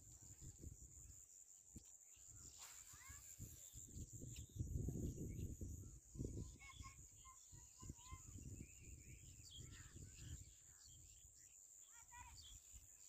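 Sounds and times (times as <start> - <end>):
bird chirps: 2.0 - 13.0.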